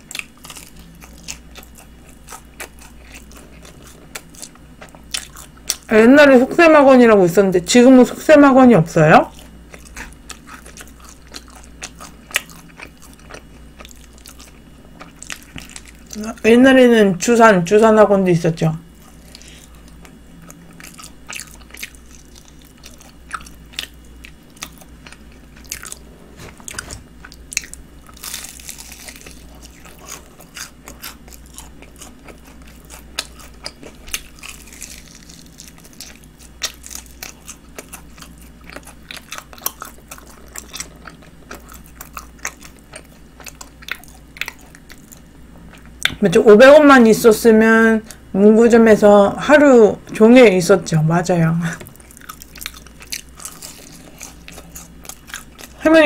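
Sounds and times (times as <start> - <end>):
biting and chewing fried chicken: 0.0 - 6.4, 9.1 - 16.8, 18.9 - 46.2, 51.7 - 56.0.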